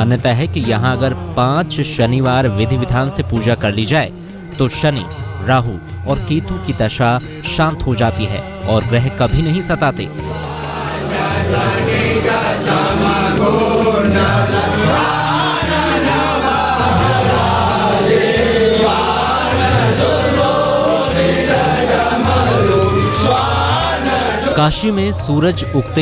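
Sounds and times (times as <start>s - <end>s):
devotional chant singing: 0.0s - 26.0s
instrumental backing music: 0.0s - 26.0s.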